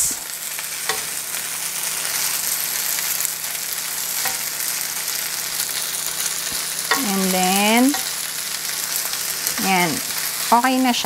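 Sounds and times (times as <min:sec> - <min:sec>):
food sizzling in a pan: 0:00.0 - 0:11.0
spatula tossing food: 0:00.7 - 0:10.5.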